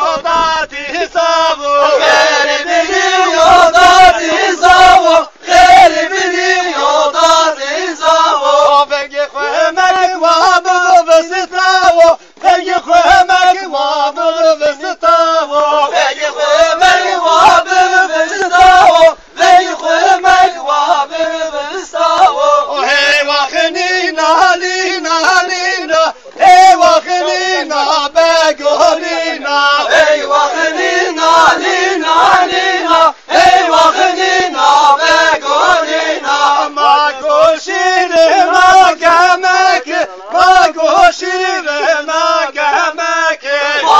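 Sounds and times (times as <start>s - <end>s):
men singing folk song together: 0.0s - 43.9s.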